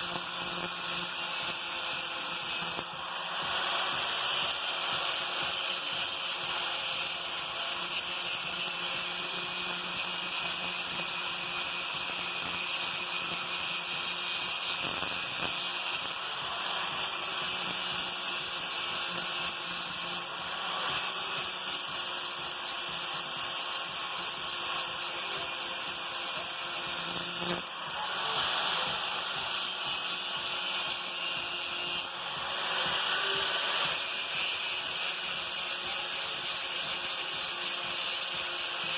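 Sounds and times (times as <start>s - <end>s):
electric grinder grinding steel: 0.0s - 38.9s.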